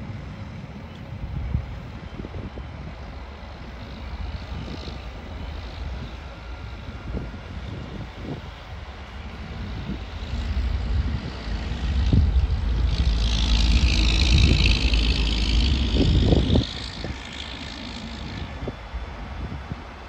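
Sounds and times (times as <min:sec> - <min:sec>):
diesel engine rumble: 0:00.0 - 0:20.0
hissing rush: 0:03.8 - 0:20.0.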